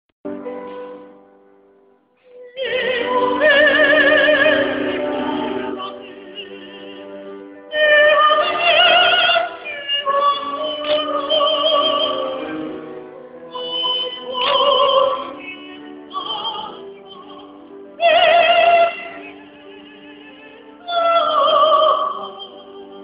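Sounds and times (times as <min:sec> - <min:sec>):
operatic singing high voice: 0:02.3 - 0:12.5, 0:13.4 - 0:23.0.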